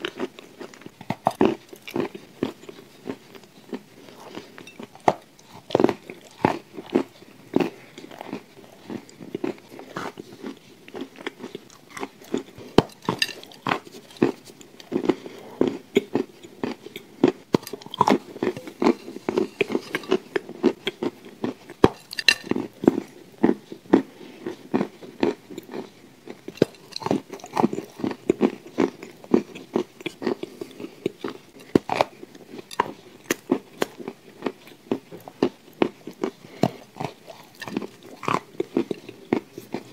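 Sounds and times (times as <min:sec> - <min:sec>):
person chewing soft crunchy food: 0:00.0 - 0:39.9.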